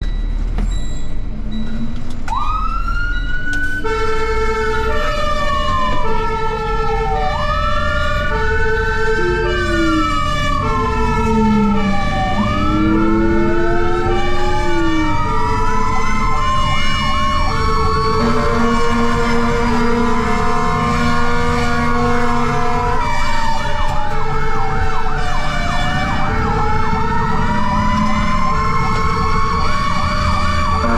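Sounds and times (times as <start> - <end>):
wailing siren: 2.0 - 30.9
siren yelp: 2.3 - 30.9
two-tone hi-lo siren: 2.3 - 30.9.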